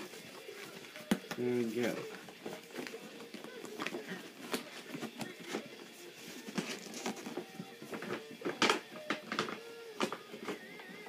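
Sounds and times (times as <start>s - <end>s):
plastic toys and packaging clicking: 0.2s - 11.0s.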